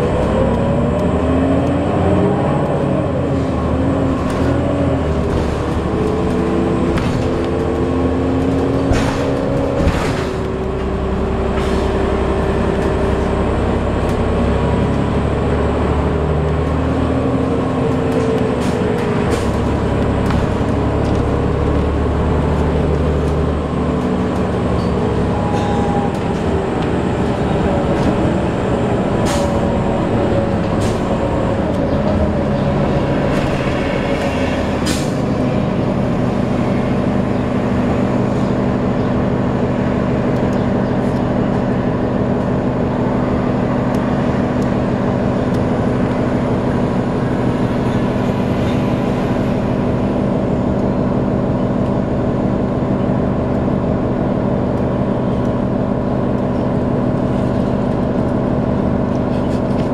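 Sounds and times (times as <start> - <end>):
bus slowing to a stop: 0.0 - 59.9.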